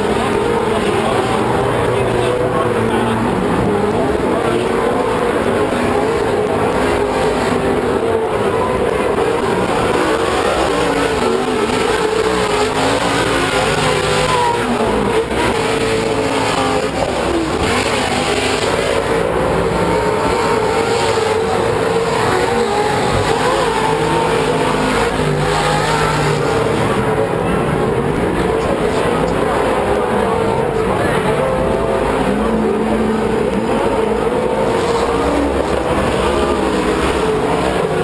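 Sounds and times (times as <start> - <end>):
race truck engines revving: 0.0 - 38.0.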